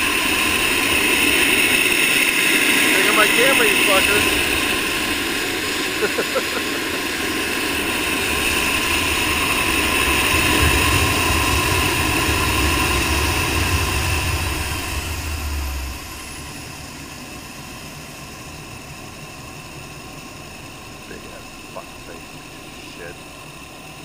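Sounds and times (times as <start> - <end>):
model helicopter whine: 0.0 - 24.0.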